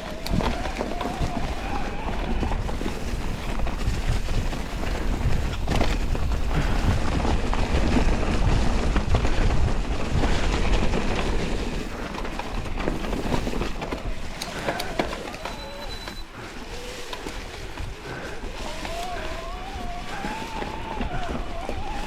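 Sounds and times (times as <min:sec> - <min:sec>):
bike rattling and knocking: 0:00.0 - 0:22.0
bike tyres rumbling on dirt: 0:00.0 - 0:22.0
wind buffeting microphone: 0:00.0 - 0:22.0.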